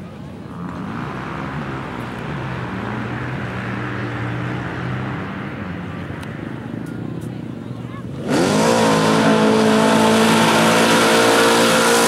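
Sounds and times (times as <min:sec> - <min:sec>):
vehicle engine running hard: 0:00.0 - 0:12.0.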